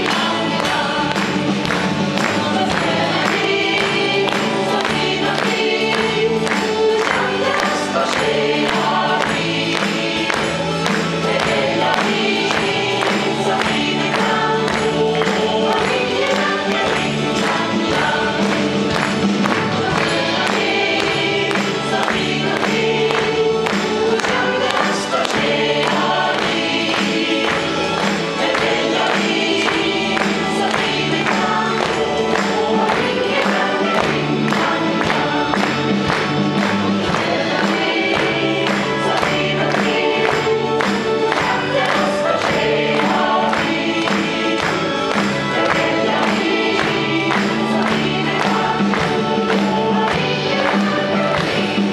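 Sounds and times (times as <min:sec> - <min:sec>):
live band playing: 0:00.0 - 0:51.9
mixed choir singing: 0:00.0 - 0:51.9.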